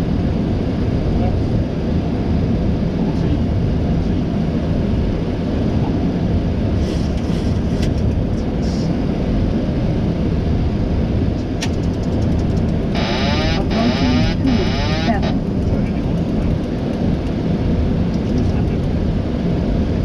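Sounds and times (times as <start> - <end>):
airflow and engine noise: 0.0 - 20.0.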